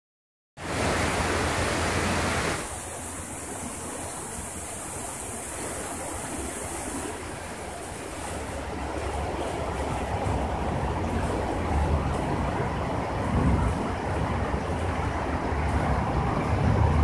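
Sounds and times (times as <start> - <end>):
stream water rushing: 0.6 - 17.0.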